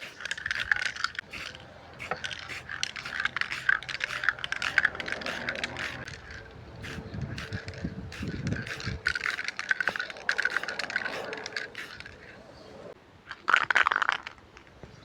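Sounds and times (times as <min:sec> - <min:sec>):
small hard objects clicking and rattling: 0:00.0 - 0:12.2, 0:13.3 - 0:14.7.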